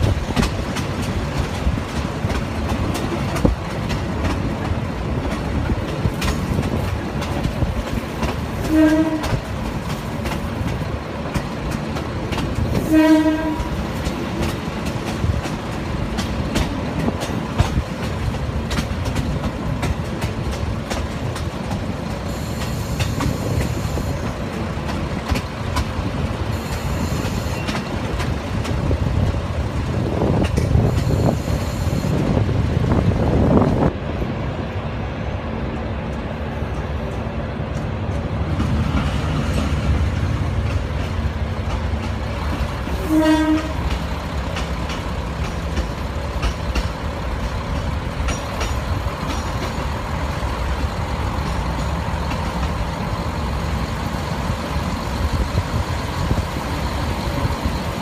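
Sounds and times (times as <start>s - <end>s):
rail joint clicks: 0.0s - 58.0s
train wheels rumbling on rails: 0.0s - 58.0s.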